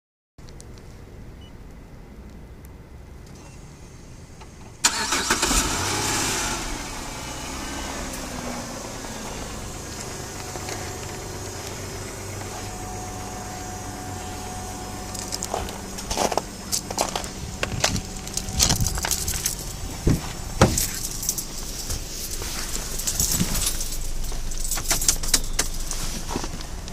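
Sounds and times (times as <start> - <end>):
car engine starting and idling: 2.0 - 26.9.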